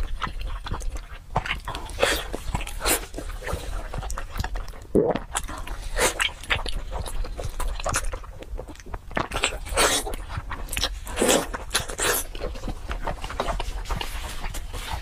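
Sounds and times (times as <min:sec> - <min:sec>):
close chewing and biting: 0:00.0 - 0:15.0.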